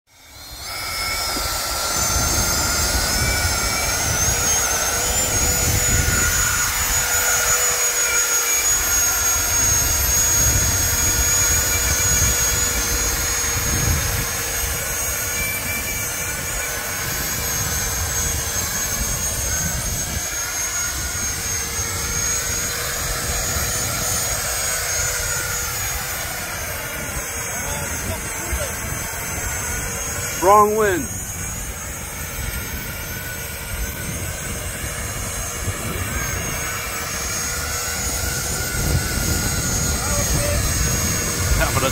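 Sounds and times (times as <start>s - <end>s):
electric ducted fans whining: 0.1s - 41.9s
wind buffeting microphone: 0.9s - 7.5s, 8.5s - 30.4s, 31.1s - 41.9s.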